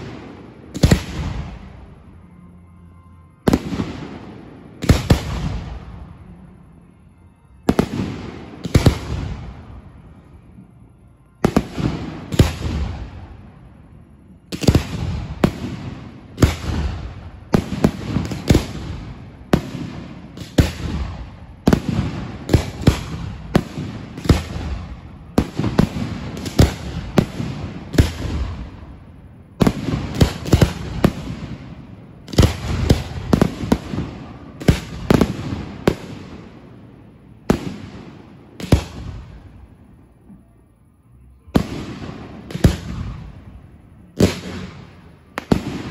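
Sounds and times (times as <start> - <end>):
fireworks bangs: 0.0 - 1.9, 3.4 - 6.4, 7.6 - 10.0, 11.4 - 13.5, 14.4 - 40.5, 41.5 - 45.9.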